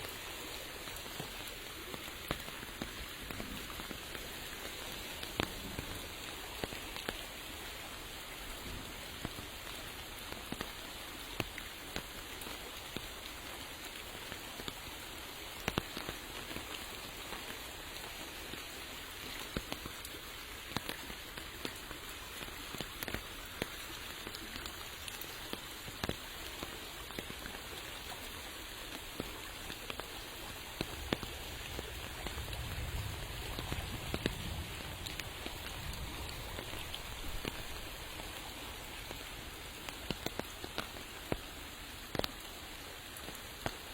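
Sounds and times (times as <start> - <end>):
raindrops tapping: 0.0 - 43.9
steady rain hiss: 0.0 - 43.9.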